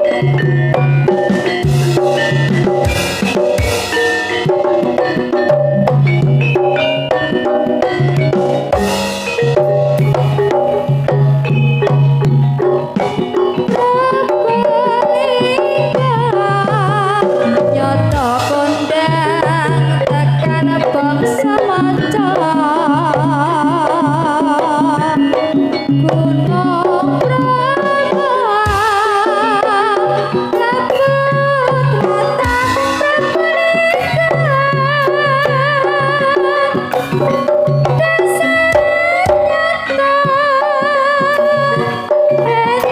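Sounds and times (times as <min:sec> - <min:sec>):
hand drum rhythm: 0:00.0 - 0:42.9
melody with heavy vibrato: 0:00.0 - 0:42.9.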